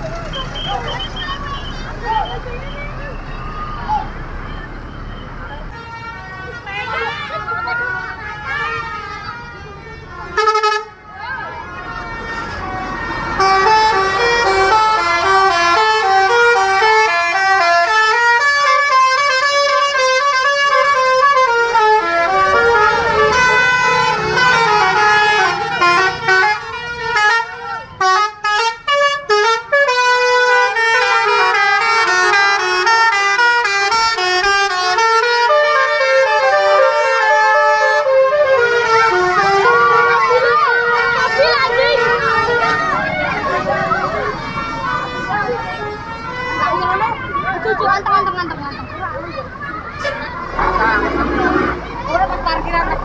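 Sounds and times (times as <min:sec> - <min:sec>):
multi-tone bus horns playing tunes: 0:00.0 - 0:53.0.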